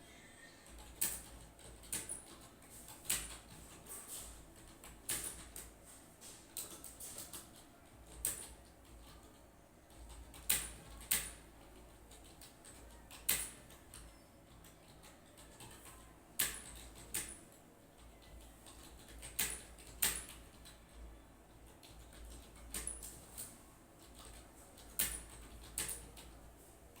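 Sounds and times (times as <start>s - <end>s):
low steady hum: 0.0s - 27.0s
computer keyboard typing clicks: 0.6s - 3.8s, 4.6s - 5.7s, 6.5s - 26.4s.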